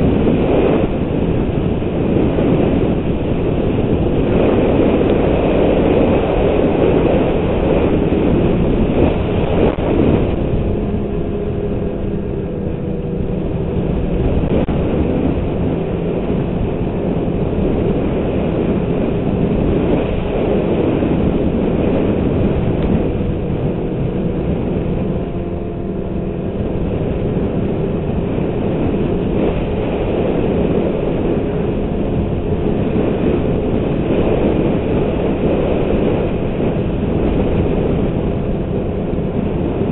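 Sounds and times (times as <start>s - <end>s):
snowmobile engine droning: 0.0s - 39.9s.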